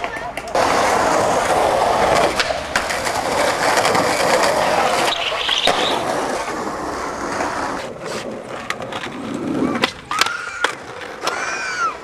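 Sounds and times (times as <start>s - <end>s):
skateboard clicks: 0.0s - 12.0s
skateboard wheels rolling on pavement: 0.0s - 12.0s.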